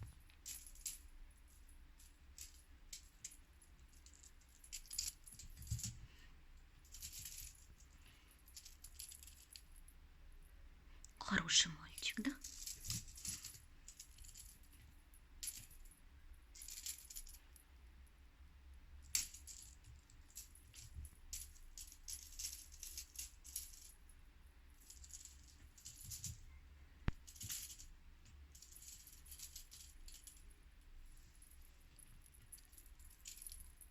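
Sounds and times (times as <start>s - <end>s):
light rattling and clinking: 0.0s - 10.0s, 11.4s - 17.8s, 19.0s - 33.9s.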